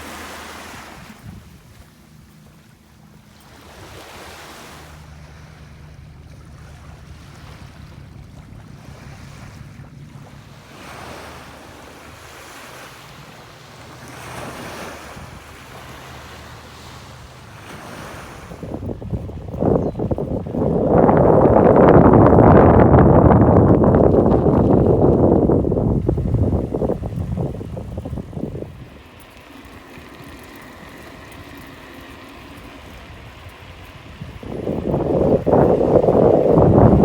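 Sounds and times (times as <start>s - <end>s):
sea waves washing in: 0.0s - 37.0s
steady low hum: 0.0s - 37.0s
wind buffeting microphone: 0.0s - 37.0s.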